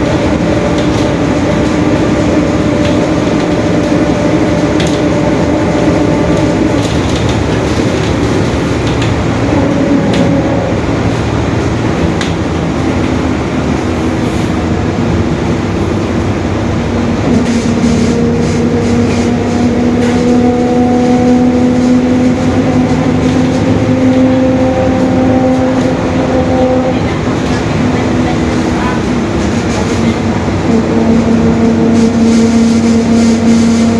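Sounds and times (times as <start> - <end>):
bus diesel engine rumble: 0.0 - 33.9
road noise: 0.0 - 33.9.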